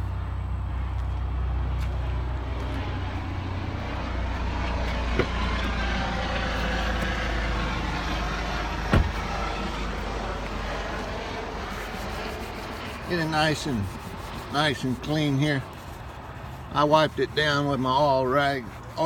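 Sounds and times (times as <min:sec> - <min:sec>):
low engine-like hum: 0:00.0 - 0:19.0.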